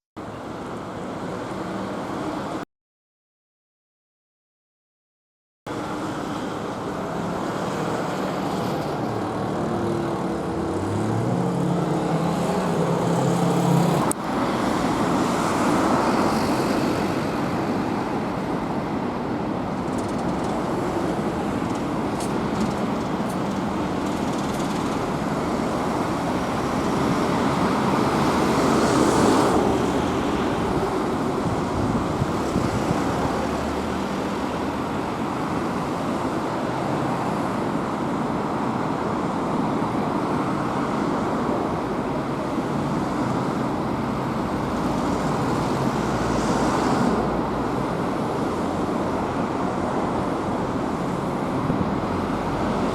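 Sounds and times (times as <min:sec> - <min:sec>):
steady traffic noise: 0:00.2 - 0:02.6, 0:05.7 - 0:52.9.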